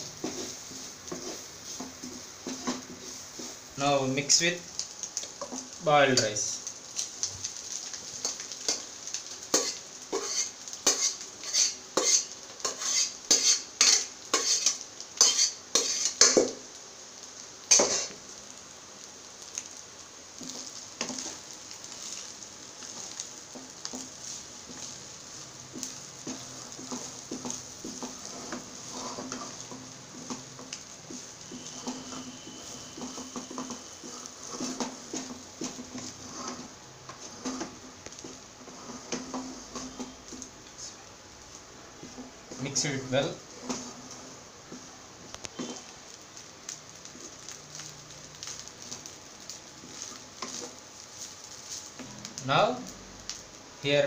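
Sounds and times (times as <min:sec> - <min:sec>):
wooden spatula stirring rice: 0:00.0 - 0:16.8, 0:19.4 - 0:52.0
faint sizzle: 0:00.0 - 0:54.0.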